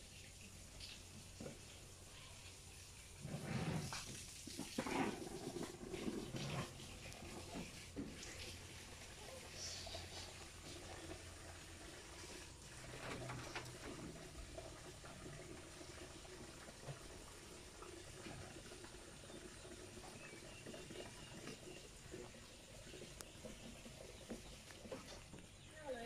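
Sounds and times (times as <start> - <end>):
rabbits chewing leaves: 0.0 - 26.0.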